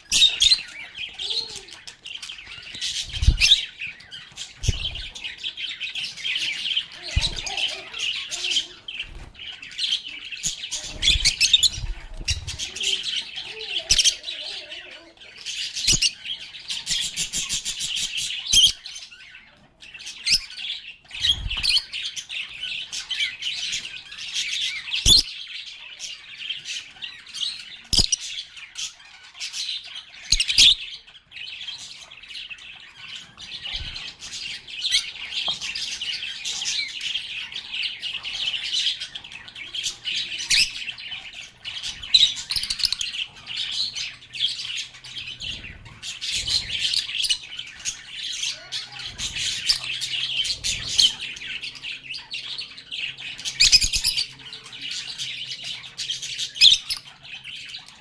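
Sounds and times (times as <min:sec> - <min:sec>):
lovebirds chirping and chattering: 0:00.0 - 0:58.0.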